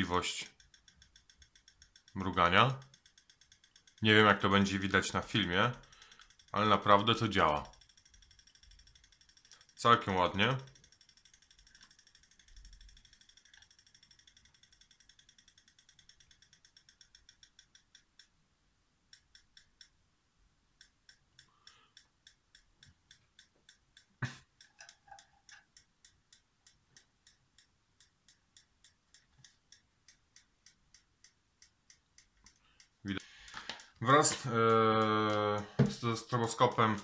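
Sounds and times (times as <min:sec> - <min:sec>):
toy strobe light ticking: 0:00.0 - 0:18.4, 0:19.0 - 0:20.0, 0:20.7 - 0:37.0.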